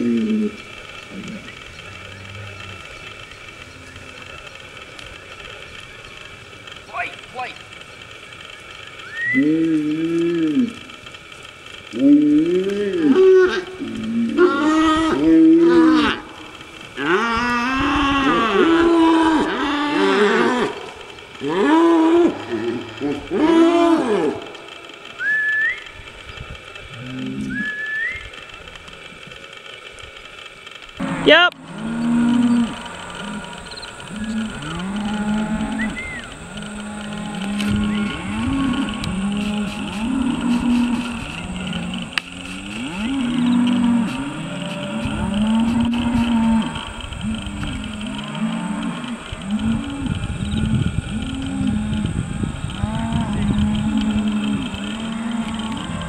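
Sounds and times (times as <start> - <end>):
cattle mooing: 0.0 - 4.5, 9.3 - 10.9, 11.9 - 25.8, 26.9 - 28.2, 31.0 - 56.0.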